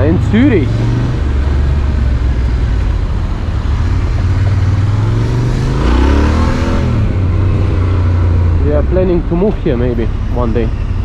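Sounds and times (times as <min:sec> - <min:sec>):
motorcycle engine humming: 0:00.0 - 0:11.0
wind and road noise: 0:00.0 - 0:11.0.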